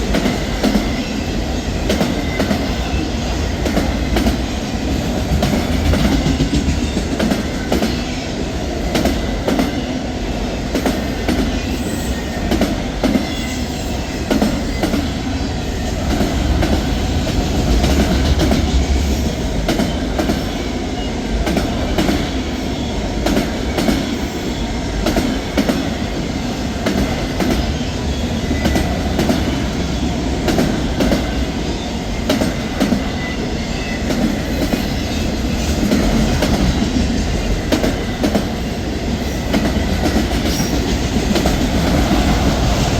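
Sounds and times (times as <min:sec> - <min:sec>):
freight train cars rumbling: 0:00.0 - 0:42.9.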